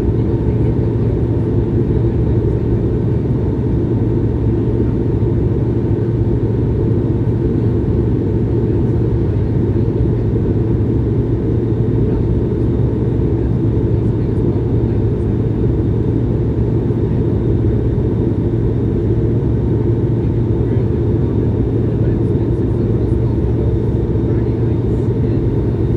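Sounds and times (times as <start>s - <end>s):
airplane cabin engine roar: 0.0s - 25.9s.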